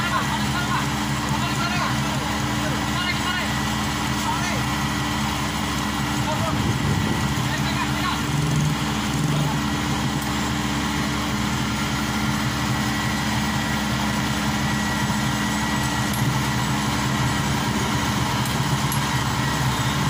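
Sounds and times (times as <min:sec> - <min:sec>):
combine harvester diesel engine: 0:00.0 - 0:20.0.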